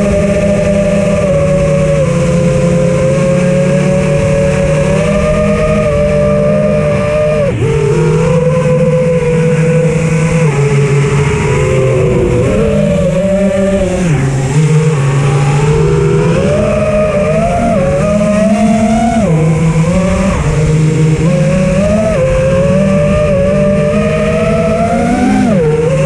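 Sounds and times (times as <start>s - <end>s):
electric motor whine: 0.0s - 26.0s
wind rush: 0.0s - 26.0s.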